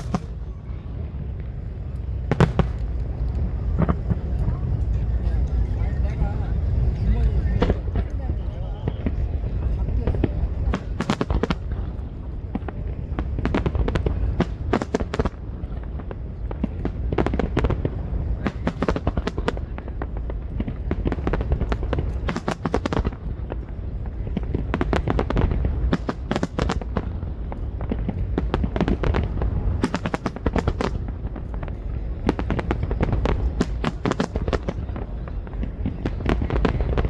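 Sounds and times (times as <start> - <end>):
continuous low rumble: 0.0 - 37.0
fireworks bangs and crackling: 0.0 - 37.0.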